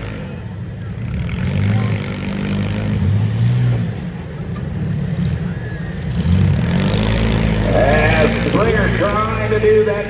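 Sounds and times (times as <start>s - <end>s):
car engines revving unevenly: 0.0s - 10.0s.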